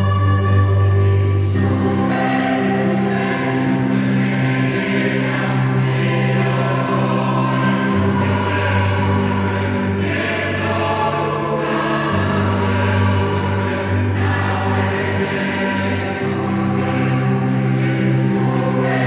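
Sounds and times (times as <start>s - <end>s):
choir singing sustained chords: 0.0s - 19.0s.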